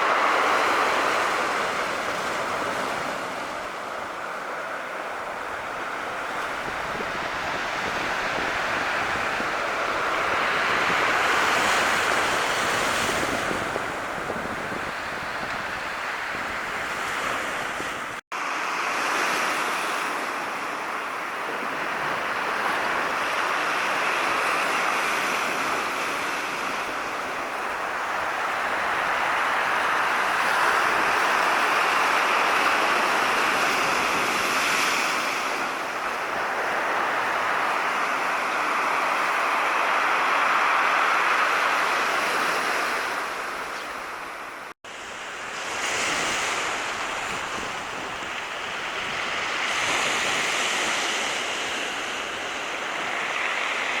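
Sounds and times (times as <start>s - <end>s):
surf washing on shore: 0.0s - 54.0s.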